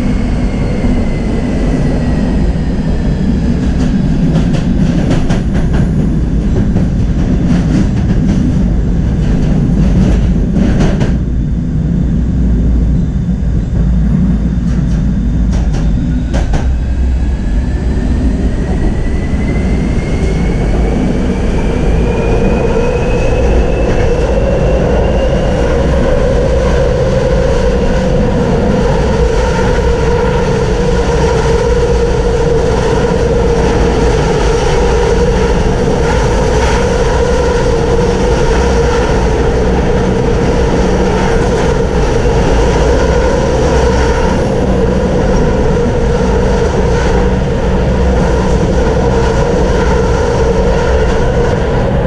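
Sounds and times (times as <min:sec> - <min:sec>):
thin rising whine: 0:00.0 - 0:07.0, 0:11.2 - 0:52.0
tram wheels rumbling on rails: 0:00.0 - 0:52.0.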